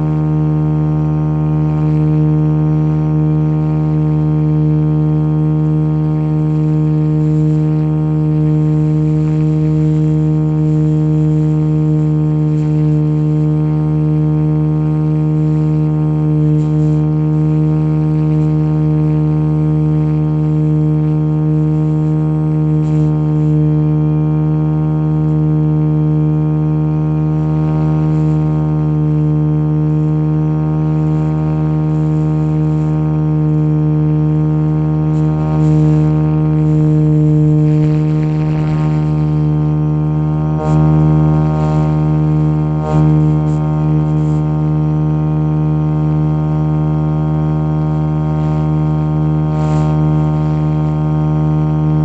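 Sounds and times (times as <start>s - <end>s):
model helicopter rotor humming: 0.0s - 52.0s.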